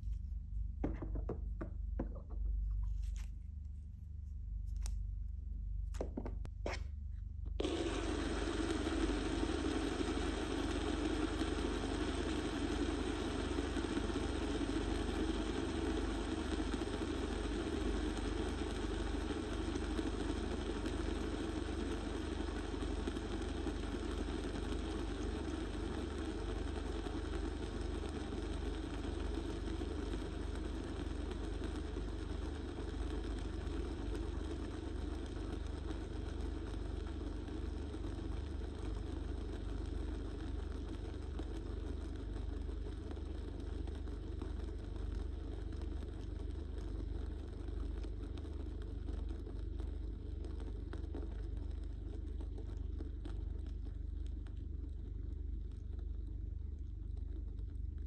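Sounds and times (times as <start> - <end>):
fidget spinner whirring: 7.6 - 55.0.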